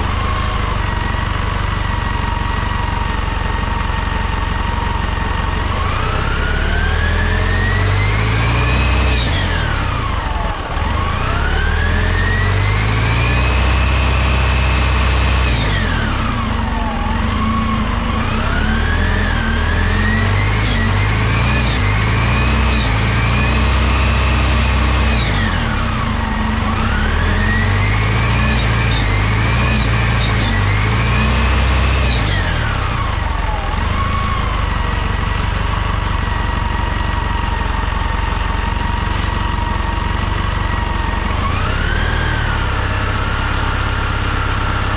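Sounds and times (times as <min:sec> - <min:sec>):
bus engine revving: 0:00.0 - 0:44.9
engine whine: 0:00.0 - 0:44.9.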